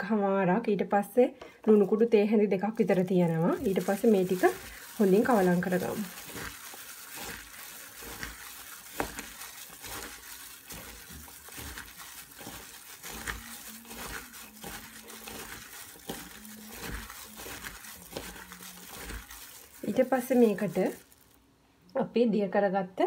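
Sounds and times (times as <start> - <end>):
plastic glove crinkling: 1.7 - 21.4.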